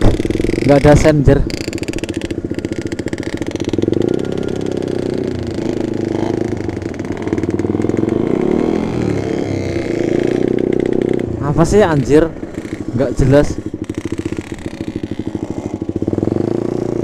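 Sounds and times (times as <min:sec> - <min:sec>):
two-stroke motorcycle engines: 0:00.0 - 0:17.0.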